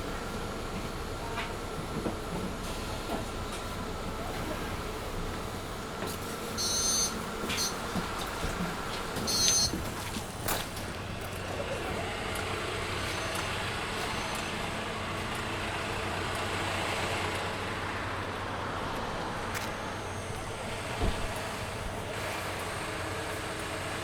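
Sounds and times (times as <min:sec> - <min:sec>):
bus engine running: 0:00.0 - 0:24.0
loud cabin heater: 0:00.0 - 0:24.0.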